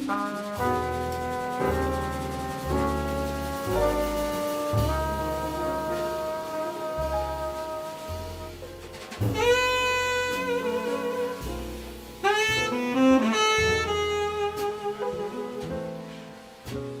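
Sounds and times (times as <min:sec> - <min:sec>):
bass line: 0:00.0 - 0:17.0
small jazz band playing: 0:00.0 - 0:17.0
saxophone melody: 0:01.0 - 0:08.5, 0:09.3 - 0:15.9.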